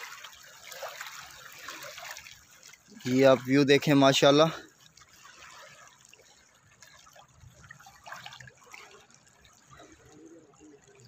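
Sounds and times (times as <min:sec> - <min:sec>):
small waves lapping on pebbles: 0:00.0 - 0:11.0.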